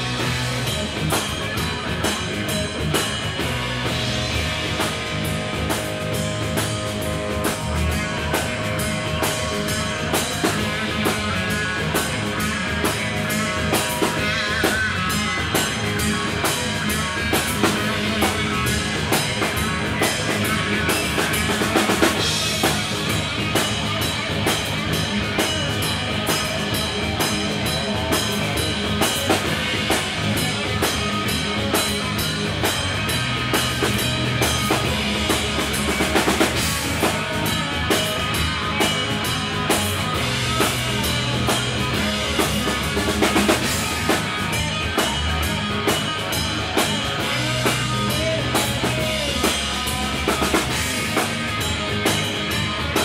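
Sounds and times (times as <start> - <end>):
bass guitar: 0.0 - 53.0
drum kit beat: 0.0 - 53.0
electric guitars: 0.0 - 53.0.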